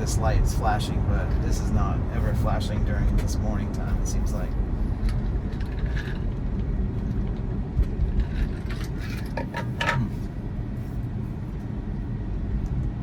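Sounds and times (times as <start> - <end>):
tyre and road noise rumble: 0.0 - 13.0.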